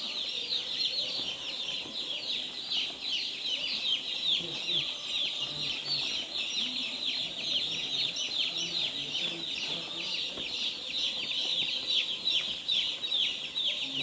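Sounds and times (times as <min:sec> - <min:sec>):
chickens clucking: 0:00.0 - 0:14.0
chicks peeping: 0:00.0 - 0:14.0.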